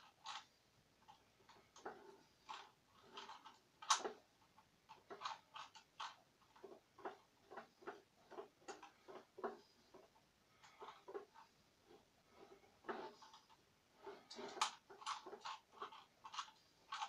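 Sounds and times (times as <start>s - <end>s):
puzzle cube plastic clicks: 0.0s - 11.4s, 12.8s - 17.0s.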